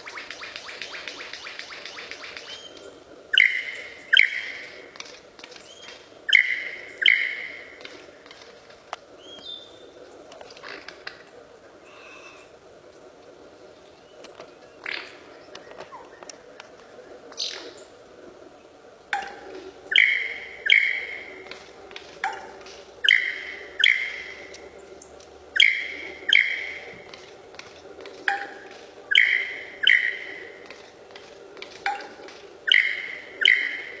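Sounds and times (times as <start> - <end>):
lyrebird calling: 0.0 - 12.8, 13.4 - 18.0, 19.1 - 34.0.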